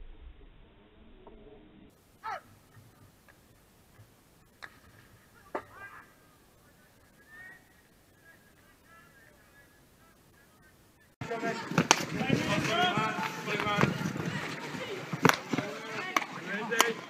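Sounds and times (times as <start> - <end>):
distant players shouting: 2.2 - 3.4, 4.0 - 17.0.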